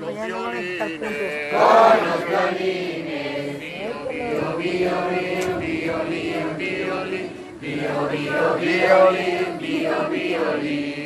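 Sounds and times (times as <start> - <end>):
group singing without words: 0.0 - 11.0.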